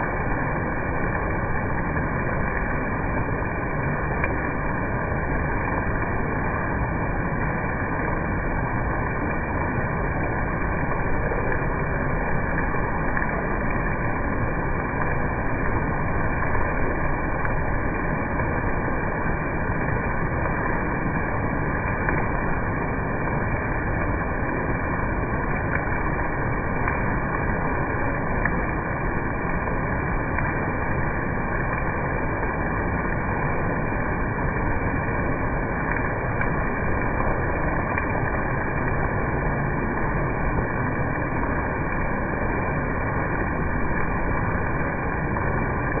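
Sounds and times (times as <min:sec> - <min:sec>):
muffled steady rushing noise: 0:00.0 - 0:46.0.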